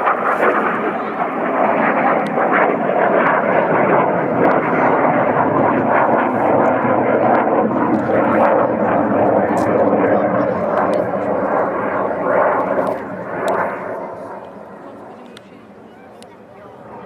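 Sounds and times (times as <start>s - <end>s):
aeroplane engine flying past: 0.0s - 17.0s.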